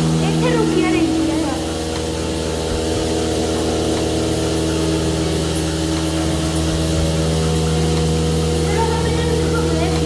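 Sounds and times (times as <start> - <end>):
dairy machinery humming: 0.0 - 10.0.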